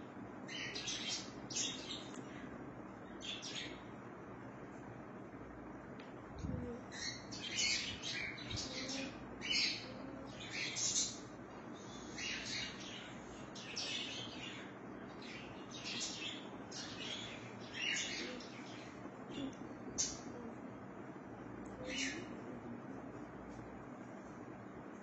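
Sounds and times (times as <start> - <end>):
birds chirping and twittering: 0.0 - 5.0, 6.4 - 20.5, 21.4 - 22.5.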